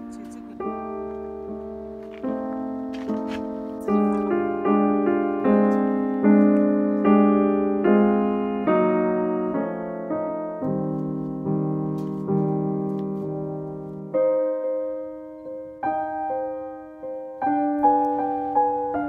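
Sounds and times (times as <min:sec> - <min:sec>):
keyboard chords: 0:00.0 - 0:19.0.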